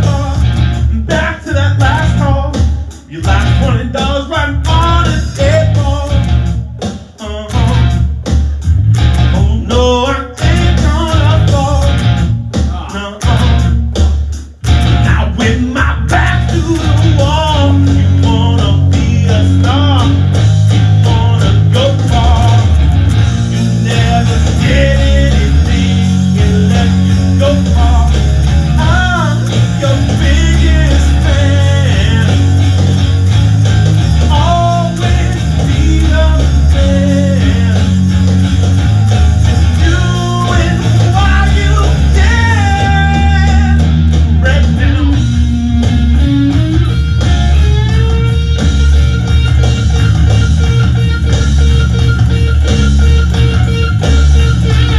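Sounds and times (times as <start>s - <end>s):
electric guitar: 0.0s - 54.9s
rock band playing live: 0.0s - 54.9s.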